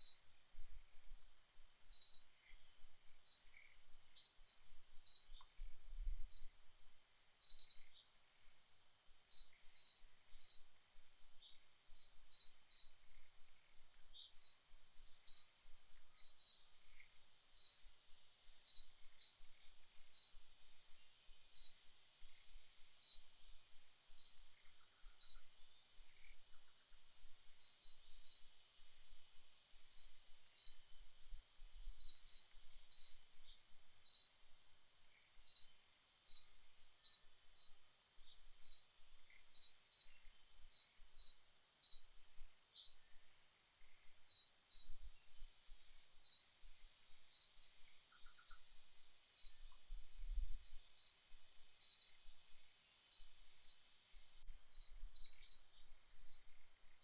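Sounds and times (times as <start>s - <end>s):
bird chirping: 0.0s - 0.3s, 1.8s - 6.6s, 7.4s - 8.2s, 9.3s - 10.8s, 11.4s - 17.9s, 18.6s - 23.4s, 24.1s - 28.6s, 29.9s - 31.0s, 31.9s - 43.2s, 43.8s - 45.5s, 46.2s - 46.6s, 47.2s - 52.3s, 53.1s - 57.0s
faint high-pitched hiss: 0.0s - 57.0s.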